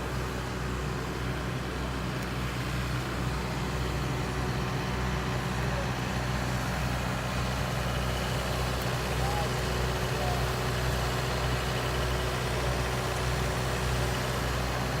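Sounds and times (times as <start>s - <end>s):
drilling rig engine droning: 0.0s - 15.0s.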